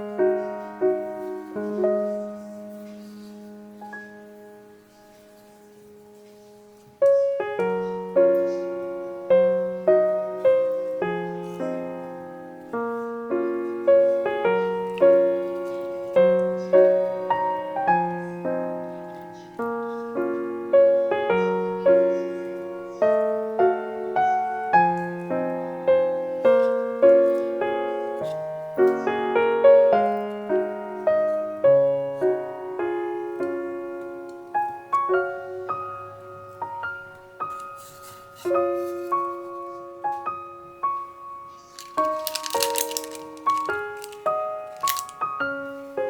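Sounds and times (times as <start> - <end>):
gentle piano piece: 0.0 - 46.0.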